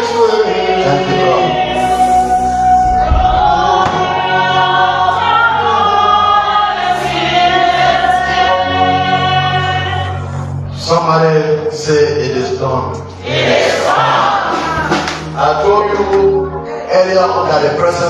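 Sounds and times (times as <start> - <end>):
gospel choir singing: 0.0 - 18.0
musical accompaniment with bass: 0.0 - 18.0.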